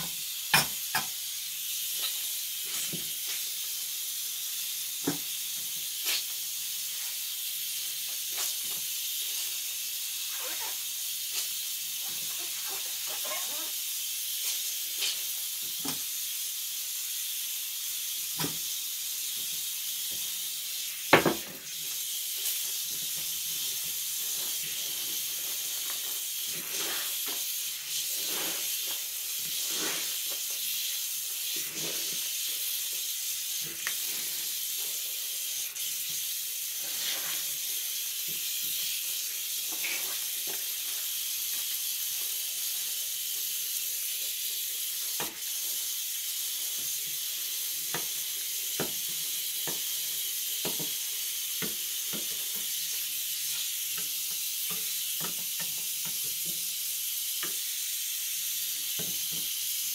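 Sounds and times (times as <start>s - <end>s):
high-pitched hiss: 0.0s - 59.9s.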